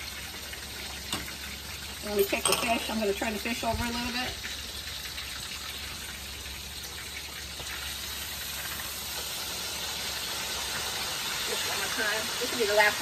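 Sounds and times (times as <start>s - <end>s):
hot oil sizzling in a pan: 0.0s - 13.0s.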